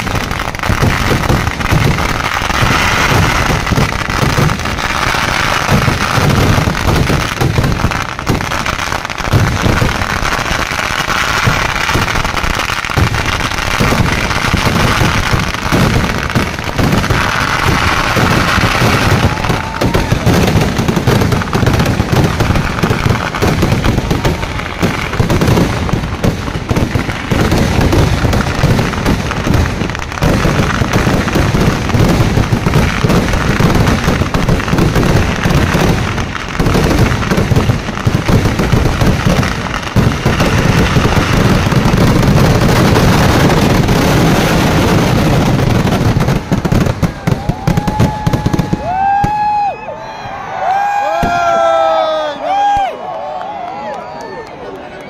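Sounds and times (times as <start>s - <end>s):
fireworks bursting: 0.0s - 53.4s.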